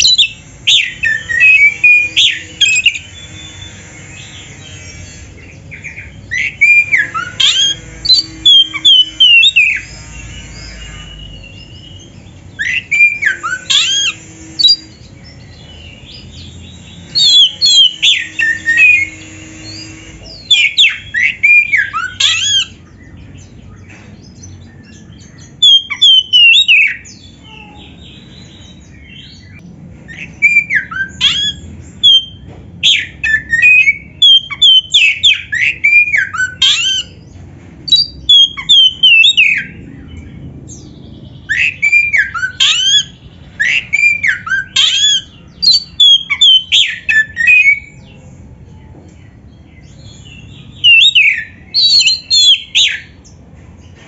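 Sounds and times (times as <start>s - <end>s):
bird singing whistled notes: 0.0s - 37.3s, 37.9s - 48.2s, 49.6s - 53.4s.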